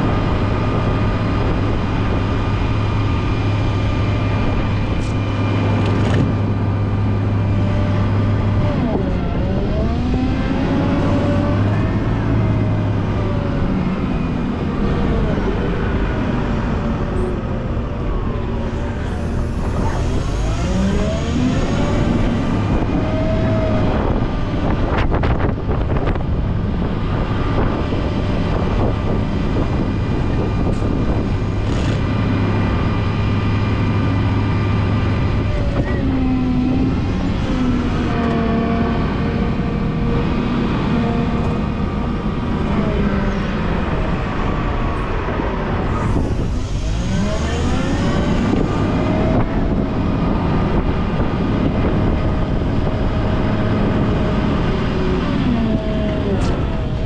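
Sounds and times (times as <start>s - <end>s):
wheel loader engine revving: 0.0s - 57.0s.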